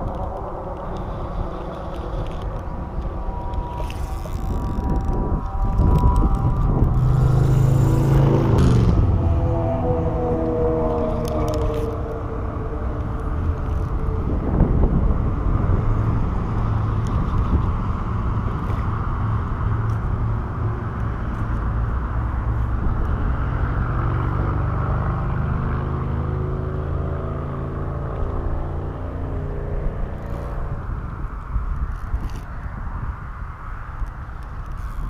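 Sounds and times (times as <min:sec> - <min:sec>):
traffic rumble: 0:00.0 - 0:35.0
vehicle engine hum: 0:00.0 - 0:35.0.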